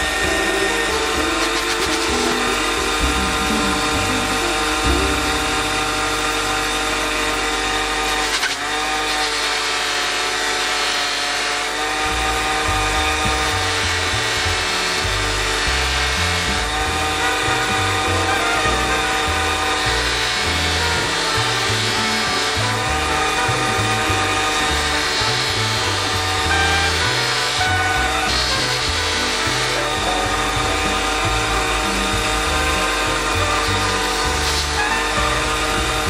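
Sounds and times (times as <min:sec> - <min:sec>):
background music: 0:00.0 - 0:08.1, 0:12.0 - 0:36.0
buffing machine running: 0:00.0 - 0:36.0.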